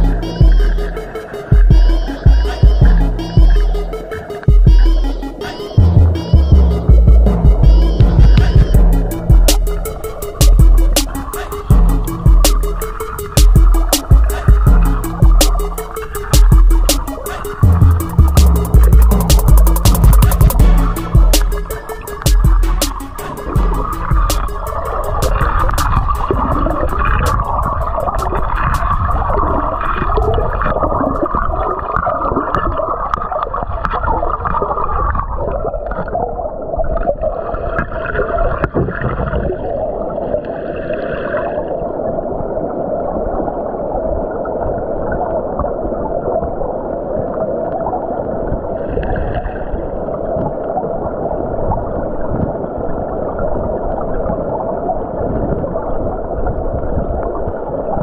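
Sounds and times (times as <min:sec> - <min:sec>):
muffled underwater stream rush: 0:00.0 - 0:58.0.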